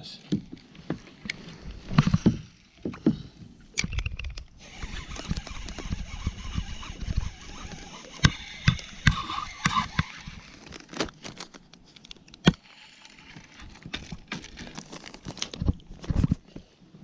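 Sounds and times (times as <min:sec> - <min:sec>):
fishing gear knocking and clicking: 0:00.3 - 0:16.6.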